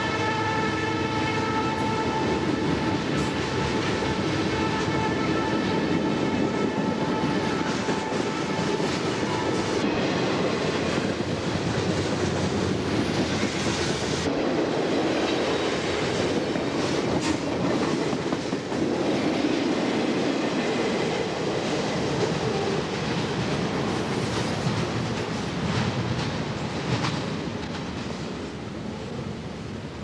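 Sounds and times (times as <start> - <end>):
train wheels on rails: 0.0 - 30.0
clickety-clack over rail joints: 1.2 - 28.6.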